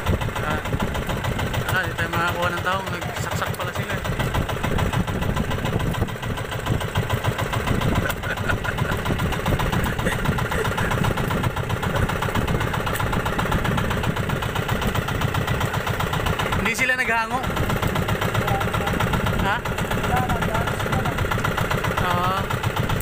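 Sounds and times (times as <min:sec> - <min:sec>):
small boat engine chugging: 0:00.0 - 0:23.0.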